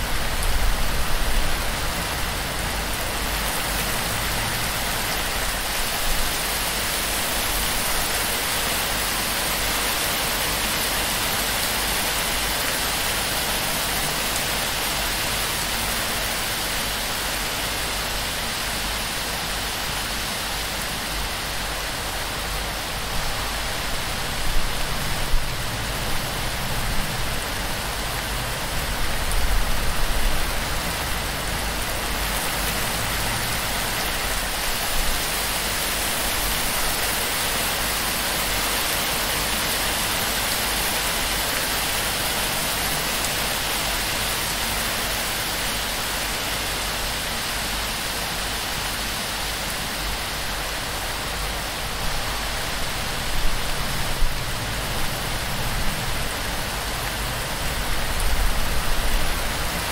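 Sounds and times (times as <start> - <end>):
heavy rain on thatch roof: 0.0 - 59.9.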